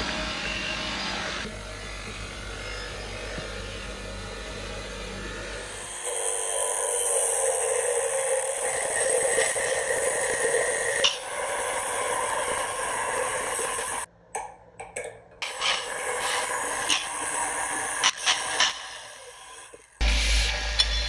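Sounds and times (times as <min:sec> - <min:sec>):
angle grinder cutting steel: 0:00.0 - 0:14.1, 0:15.4 - 0:21.0.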